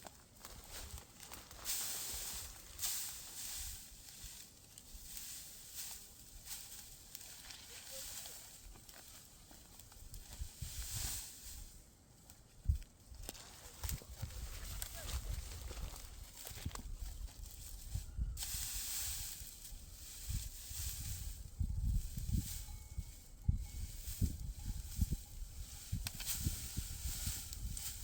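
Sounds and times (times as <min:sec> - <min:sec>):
dry rustling swishes: 0:00.4 - 0:11.8, 0:13.3 - 0:28.0.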